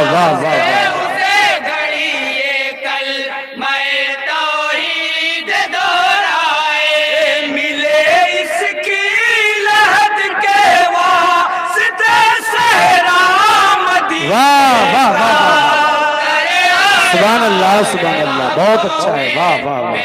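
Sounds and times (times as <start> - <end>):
men singing together unaccompanied: 0.0 - 20.0.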